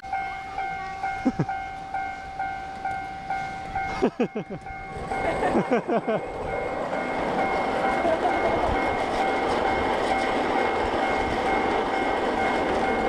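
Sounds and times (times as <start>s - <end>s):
approaching train: 0.0s - 13.0s
railroad crossing bell ringing: 0.0s - 13.0s.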